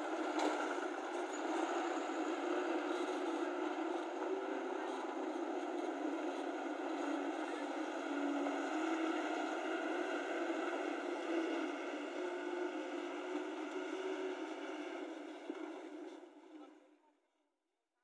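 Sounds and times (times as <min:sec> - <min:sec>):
diesel truck engine droning: 0:00.0 - 0:16.4.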